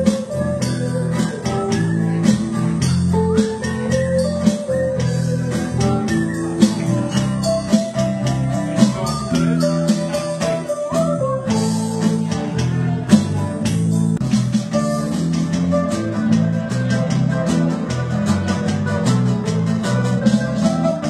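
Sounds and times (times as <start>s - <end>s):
bass guitar: 0.0s - 21.0s
electric guitar lead: 0.0s - 21.0s
steady drum beat: 0.0s - 21.0s.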